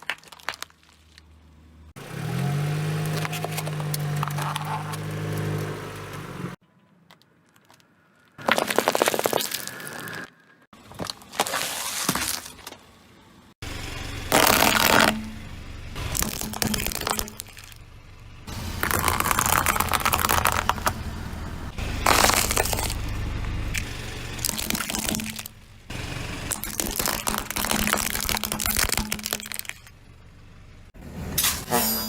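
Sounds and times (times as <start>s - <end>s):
objects crunching under car tyre: 0.0s - 12.9s, 14.3s - 15.4s, 16.0s - 17.8s, 18.5s - 25.6s, 26.4s - 30.0s.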